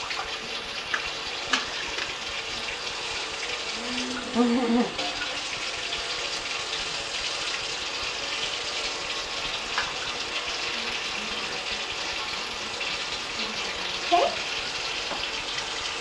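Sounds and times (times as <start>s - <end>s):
faucet running into steel sink: 0.0s - 16.0s.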